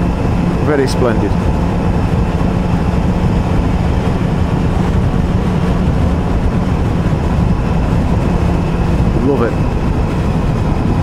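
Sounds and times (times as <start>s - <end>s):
motorcycle engine cruising: 0.0s - 11.0s
wind rush on microphone: 0.0s - 11.0s.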